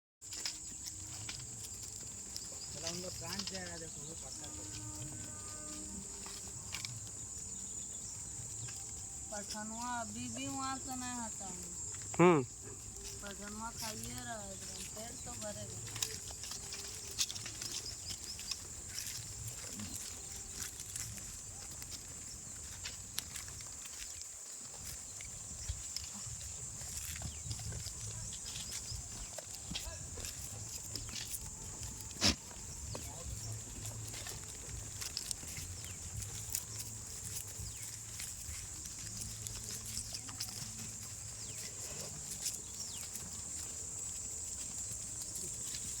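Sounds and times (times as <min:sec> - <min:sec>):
goats munching: 0:00.2 - 0:04.0, 0:11.6 - 0:46.0
hooves clicking: 0:00.2 - 0:46.0
steady high-pitched hiss: 0:00.3 - 0:46.0.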